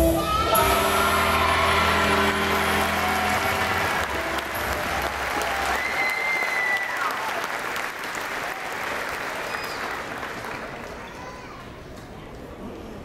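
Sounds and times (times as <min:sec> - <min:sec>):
audience applauding: 0:00.7 - 0:11.5.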